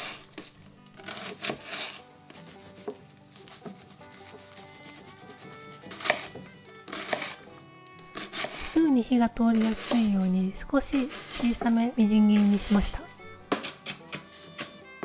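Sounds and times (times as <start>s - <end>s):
knife cutting through onion: 0.0s - 14.9s
soft background music: 0.0s - 15.0s.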